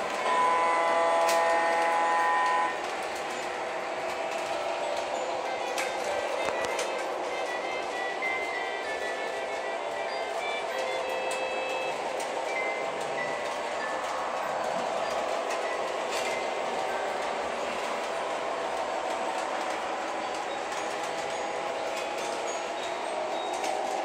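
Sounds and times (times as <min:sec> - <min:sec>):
model train wheels and motor: 0:00.0 - 0:24.0.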